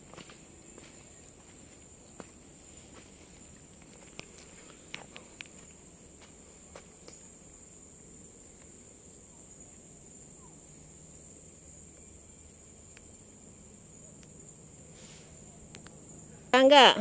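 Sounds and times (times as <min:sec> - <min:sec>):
forest insects chorus: 0:00.0 - 0:17.0.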